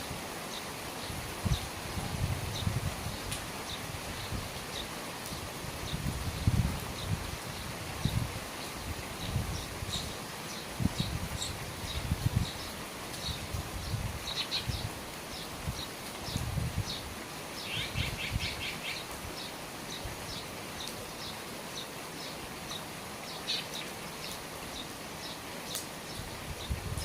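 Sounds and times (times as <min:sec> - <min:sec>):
rain falling on eaves: 0:00.0 - 0:27.0
small birds chirping: 0:00.4 - 0:27.0.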